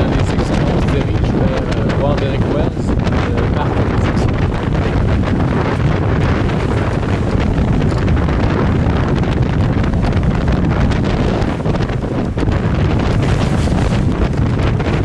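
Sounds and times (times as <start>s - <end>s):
water washing past boat: 0.0s - 15.0s
wind buffeting microphone: 0.0s - 15.0s.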